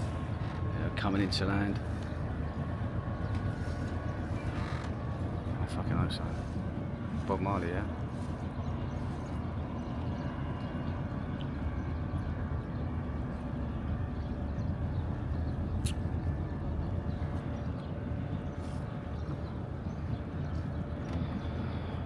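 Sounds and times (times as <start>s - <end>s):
motorboat engine droning: 0.0s - 22.0s.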